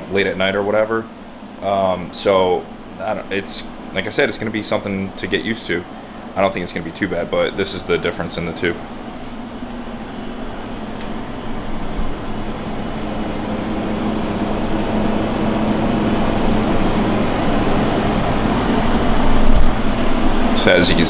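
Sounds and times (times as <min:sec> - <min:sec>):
mechanical hum with low tone: 0:00.0 - 0:21.0.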